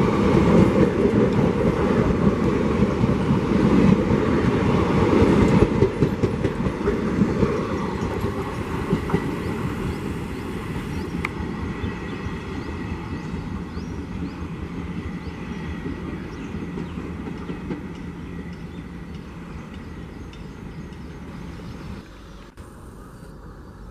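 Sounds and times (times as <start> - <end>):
train wheels clattering on rails: 0.0 - 11.5, 12.6 - 21.6.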